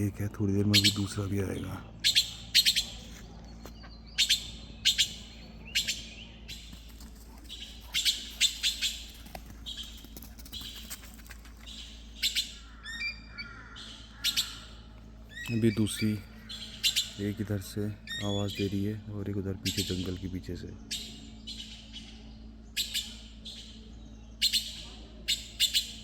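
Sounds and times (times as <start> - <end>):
magpies rasping calls: 0.0 - 26.0.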